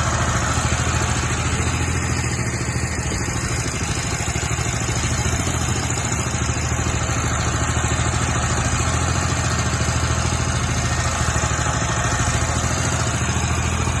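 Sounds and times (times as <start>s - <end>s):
drilling rig engine pulsing: 0.0s - 14.0s.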